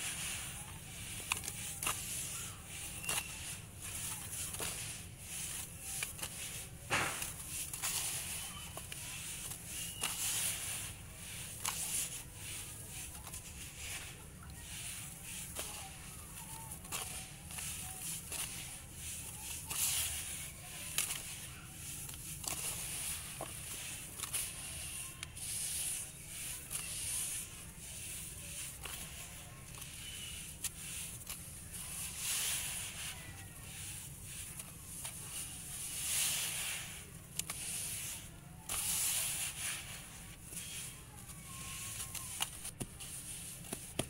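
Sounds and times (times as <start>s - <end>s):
hands crunching damp sand: 0.0s - 44.0s.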